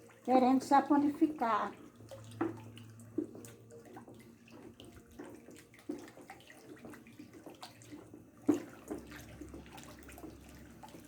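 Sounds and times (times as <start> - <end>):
liquid sloshing in a bucket: 0.0 - 11.0.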